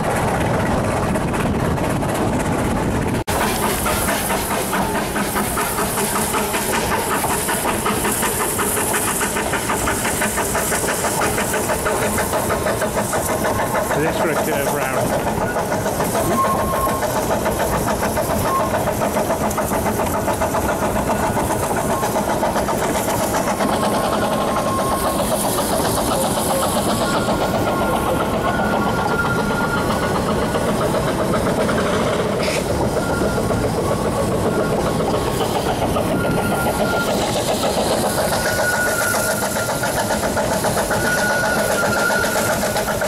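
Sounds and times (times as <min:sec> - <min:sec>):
train rumbling and rattling: 0:00.0 - 0:43.0.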